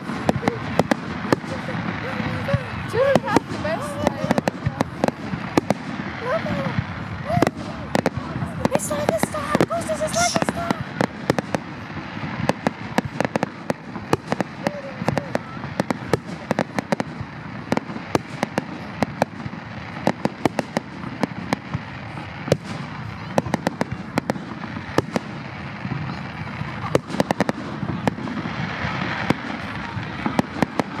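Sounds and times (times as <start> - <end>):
fireworks bangs and cracks: 0.0 - 31.0.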